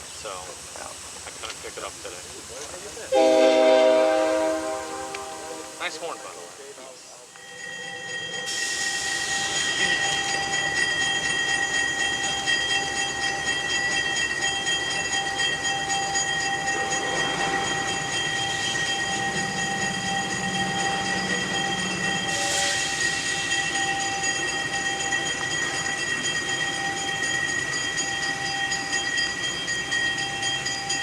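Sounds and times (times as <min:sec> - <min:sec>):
train rumbling on rails: 0:00.0 - 0:31.0
high sustained tones: 0:03.2 - 0:31.0.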